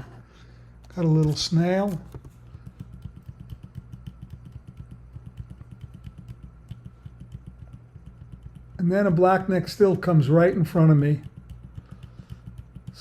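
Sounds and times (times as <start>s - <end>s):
low steady hum: 0.0s - 13.0s
rapid computer clicking: 0.8s - 13.0s.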